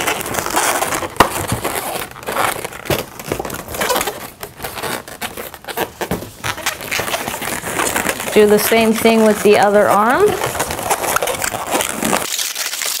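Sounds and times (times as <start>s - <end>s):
balloons rubbing and scraping: 0.0s - 12.5s.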